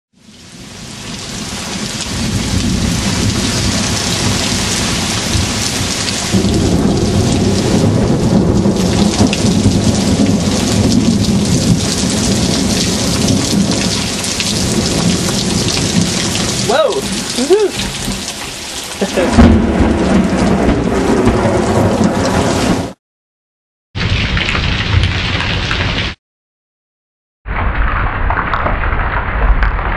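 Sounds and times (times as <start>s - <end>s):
heavy rain falling: 0.2s - 23.0s, 24.0s - 26.2s, 27.5s - 29.9s
low thunder rumble: 0.7s - 23.0s, 27.5s - 29.9s.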